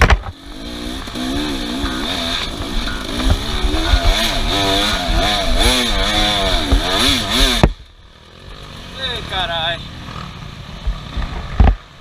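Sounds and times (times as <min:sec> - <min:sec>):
off-road vehicle engine revving: 0:00.0 - 0:11.6.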